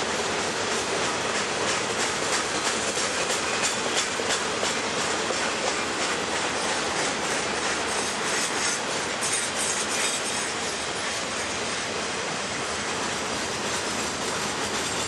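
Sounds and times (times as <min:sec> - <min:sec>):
wheels clicking over rail joints: 0:00.6 - 0:15.0.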